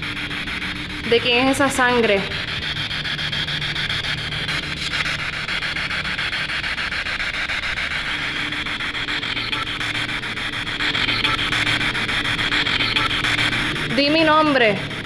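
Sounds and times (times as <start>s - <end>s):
radio static chopped by scanning: 0.0s - 15.0s.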